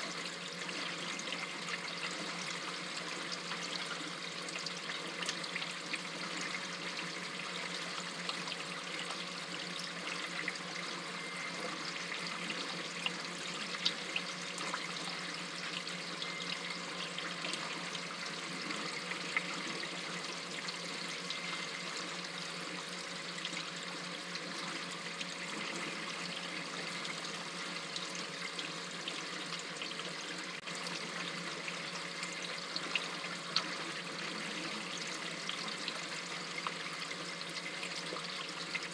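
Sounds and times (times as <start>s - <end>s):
water trickling and splashing: 0.0s - 38.9s
sharp water drips: 0.1s - 38.9s.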